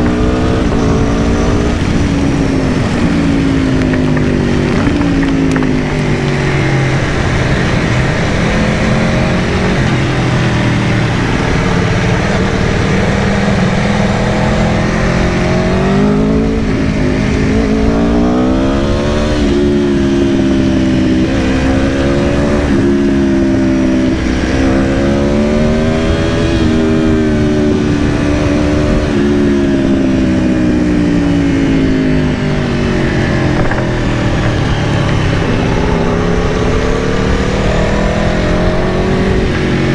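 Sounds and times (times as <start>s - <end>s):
motorcycle engine running: 0.0s - 39.9s
rushing wind: 0.0s - 39.9s.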